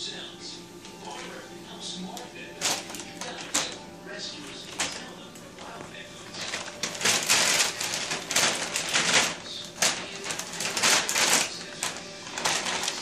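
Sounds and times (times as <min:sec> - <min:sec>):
plastic bag crinkling and rustling: 0:00.9 - 0:13.0.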